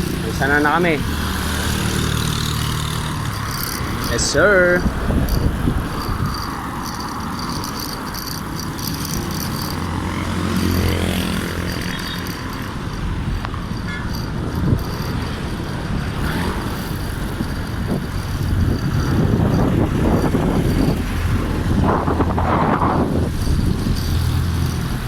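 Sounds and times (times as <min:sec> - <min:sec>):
road traffic: 0:00.0 - 0:25.0
vehicle engine passing close: 0:00.0 - 0:25.0
wind noise: 0:00.0 - 0:25.0.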